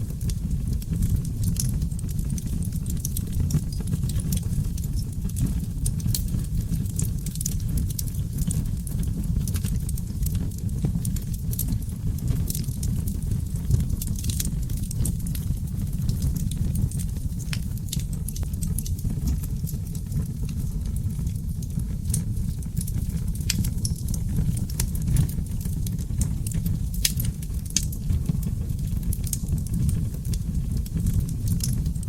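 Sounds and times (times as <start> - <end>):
fire flames rumbling: 0.0 - 32.0
logs crackling and popping: 0.0 - 32.0.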